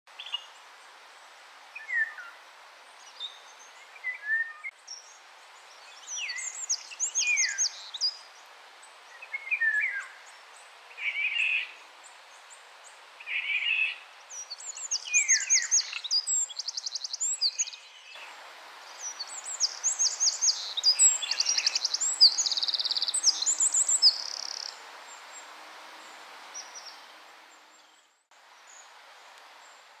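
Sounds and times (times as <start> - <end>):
steady hiss: 0.1 - 30.0
wren trilling song: 3.0 - 28.9.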